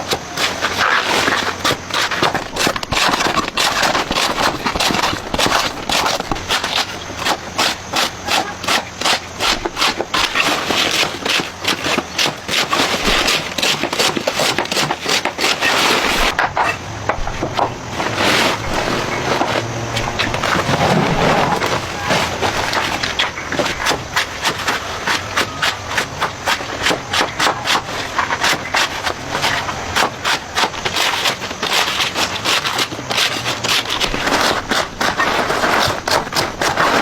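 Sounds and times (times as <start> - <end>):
rhythmic rubbing on wood: 0.0 - 16.6, 17.2 - 37.0.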